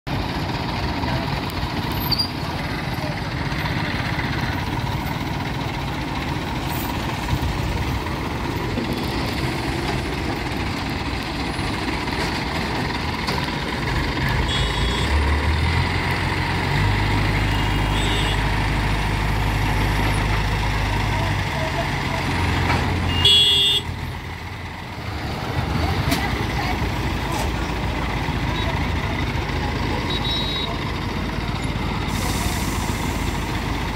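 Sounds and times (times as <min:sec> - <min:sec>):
engine low drone: 0:00.1 - 0:33.9
heavy vehicle engines idling: 0:00.1 - 0:33.9
road traffic passing: 0:00.1 - 0:33.9.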